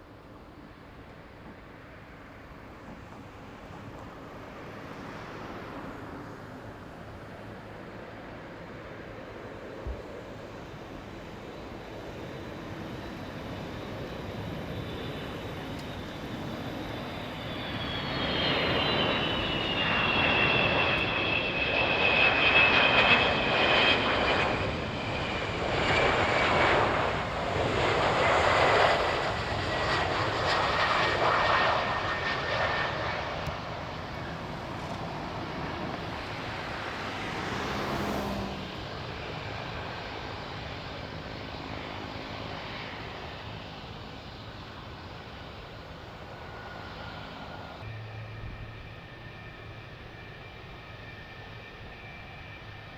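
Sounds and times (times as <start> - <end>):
military jet passing by: 0.5 - 52.9
high engine whine: 2.5 - 52.9.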